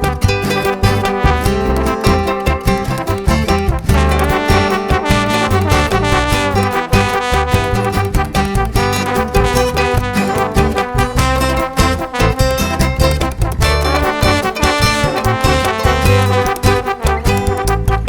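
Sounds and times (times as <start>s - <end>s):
swing music with brass: 0.0s - 18.0s.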